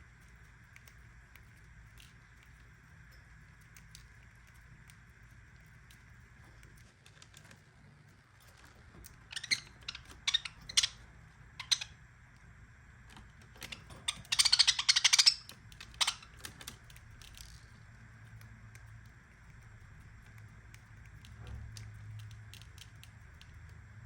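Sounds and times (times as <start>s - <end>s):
budgerigar clicks and ticks: 0.0s - 7.6s, 9.0s - 12.0s, 13.1s - 24.0s.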